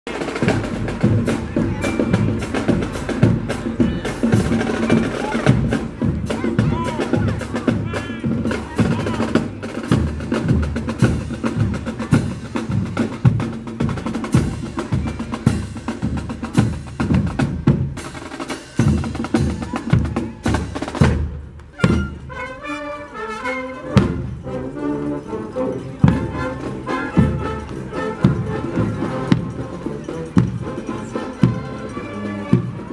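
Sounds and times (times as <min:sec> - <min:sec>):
snare and bass drums: 0:00.1 - 0:22.5, 0:27.1 - 0:31.7
brass instruments: 0:00.1 - 0:32.9.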